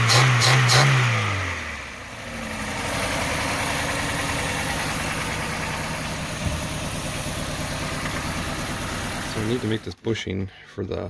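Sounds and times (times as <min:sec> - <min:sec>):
engine revving then idling: 0:00.0 - 0:09.9.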